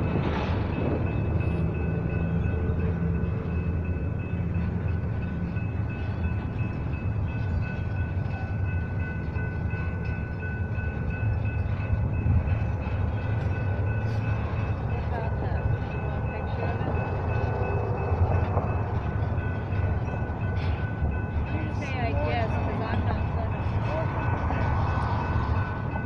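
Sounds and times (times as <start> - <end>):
freight train rolling rumble: 0.0 - 26.0.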